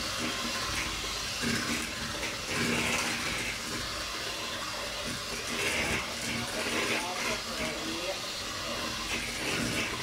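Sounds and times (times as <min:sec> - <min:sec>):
electric mixer whirring: 0:00.0 - 0:10.0.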